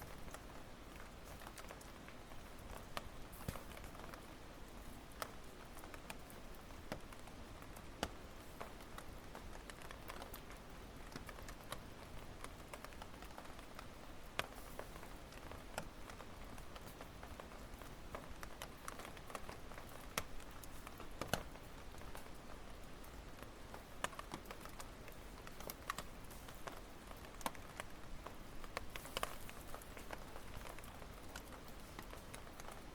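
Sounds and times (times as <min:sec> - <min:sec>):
campfire crackling: 0:00.0 - 0:32.9.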